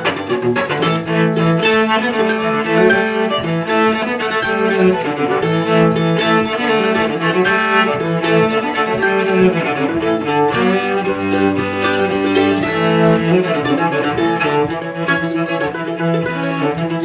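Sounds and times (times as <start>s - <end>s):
cello bowing melody: 0.0s - 17.0s
mandolin picking: 0.0s - 17.0s.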